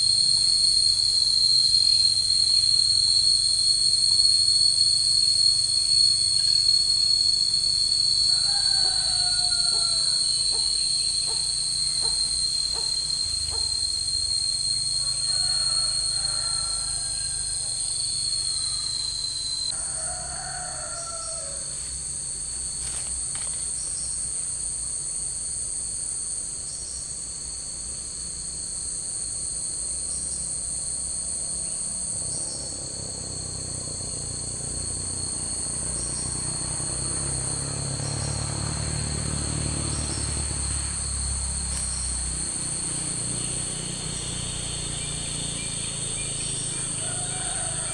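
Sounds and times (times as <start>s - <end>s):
high insect drone: 0.0s - 47.9s
low insect drone: 0.0s - 47.9s.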